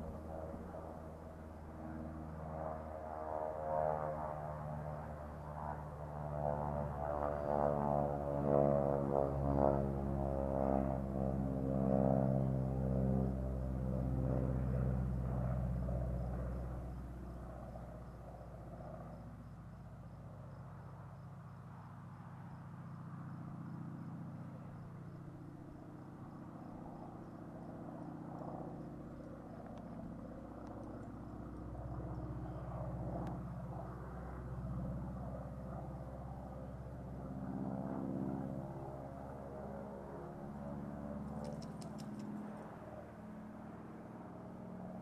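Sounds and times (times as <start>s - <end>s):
airplane engine droning overhead: 0.0s - 45.0s.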